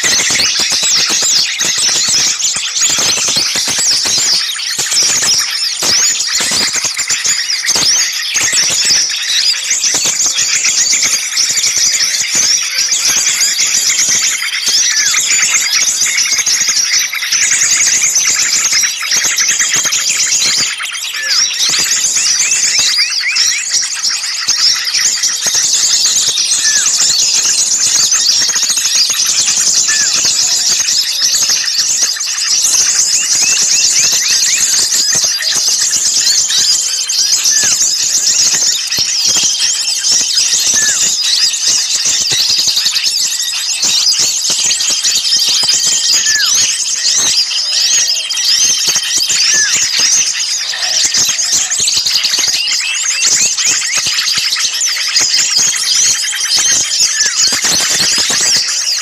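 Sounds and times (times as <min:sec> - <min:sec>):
small songbirds chattering: 0:00.0 - 0:59.0.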